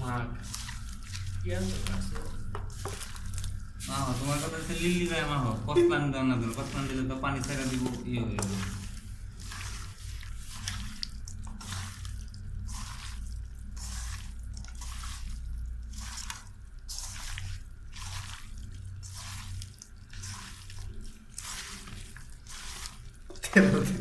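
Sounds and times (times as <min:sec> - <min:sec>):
spoon stirring wet masala: 0:00.0 - 0:24.0
steady low hum: 0:00.0 - 0:24.0.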